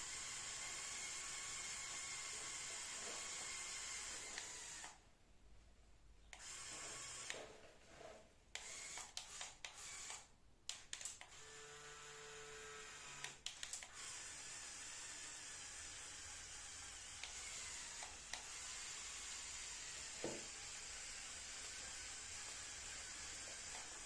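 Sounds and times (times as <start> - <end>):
toy electric motors whirring: 0.0 - 5.0, 6.4 - 7.5, 8.6 - 10.3, 10.9 - 24.0.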